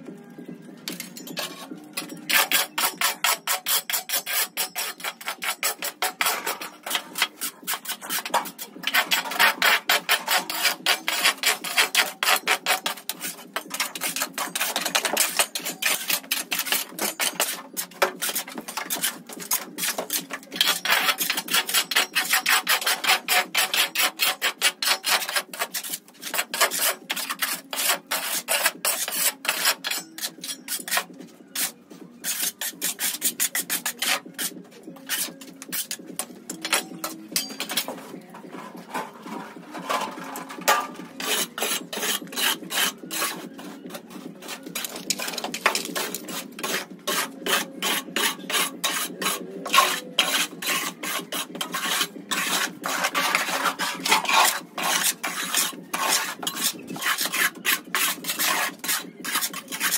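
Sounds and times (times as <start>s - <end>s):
metal shovels scraping sand: 1.3s - 34.5s, 36.6s - 59.9s.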